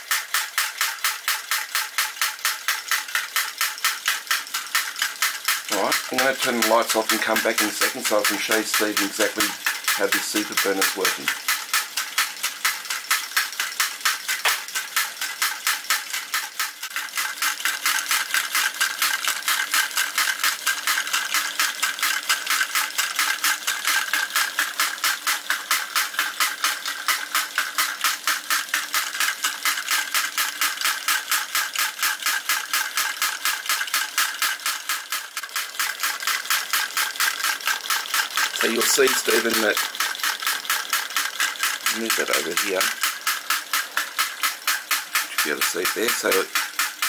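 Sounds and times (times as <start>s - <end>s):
toy drop hammer clattering: 0.0s - 47.0s.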